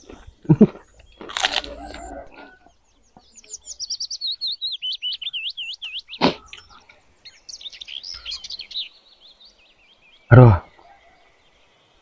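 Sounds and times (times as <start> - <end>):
small bird chirping: 0.8 - 11.5.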